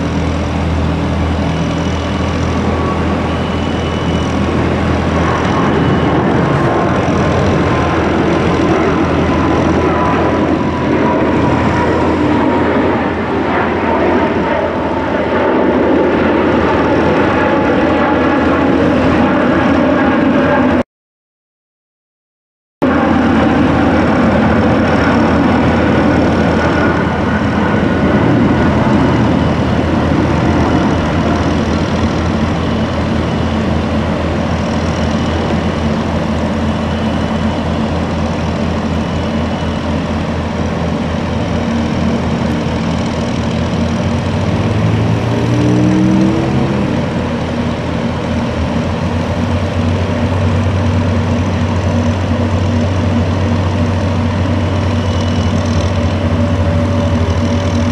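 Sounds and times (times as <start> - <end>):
diesel crane engine running: 0.0 - 15.3, 22.8 - 57.9.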